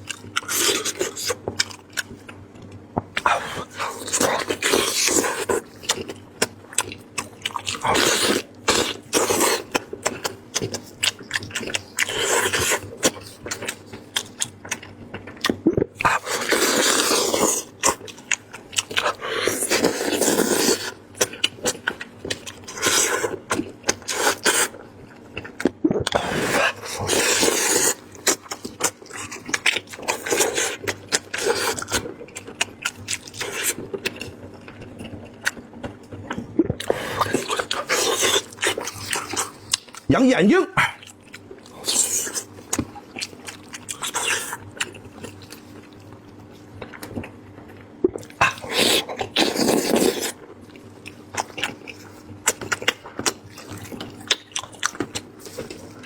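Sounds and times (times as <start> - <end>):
meat being chewed: 0.0 - 56.0.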